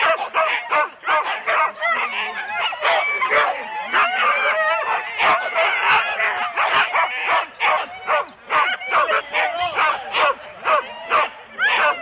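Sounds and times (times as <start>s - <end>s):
dogs barking: 0.0s - 12.0s
dogs wavering cries: 0.0s - 12.0s.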